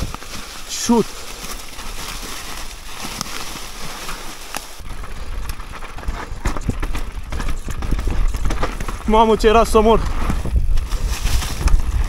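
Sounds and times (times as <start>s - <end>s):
bike rattling over bumps: 0.0s - 12.0s
bike tyres on leaves and gravel: 0.0s - 12.0s.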